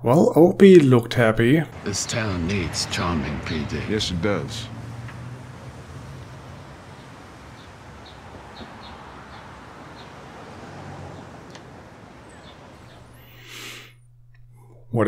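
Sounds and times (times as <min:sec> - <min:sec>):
background hiss: 0:00.9 - 0:15.0
small birds chirping: 0:01.7 - 0:14.1.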